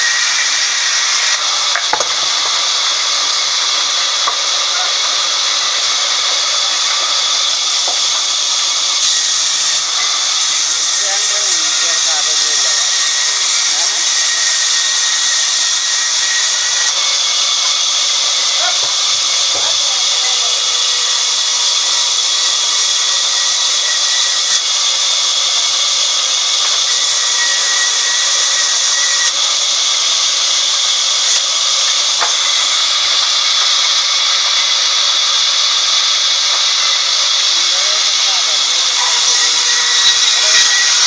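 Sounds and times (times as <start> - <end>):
band saw cutting wood: 0.0 - 41.0.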